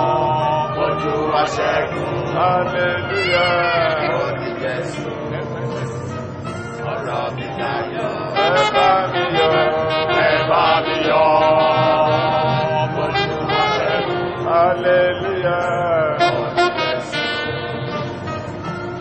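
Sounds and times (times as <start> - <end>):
choir singing gospel with band: 0.0 - 5.8, 6.8 - 17.5.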